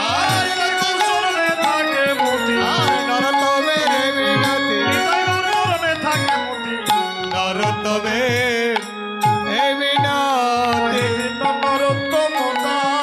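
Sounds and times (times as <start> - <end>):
man singing: 0.0 - 13.0
sustained keyboard notes: 0.0 - 13.0.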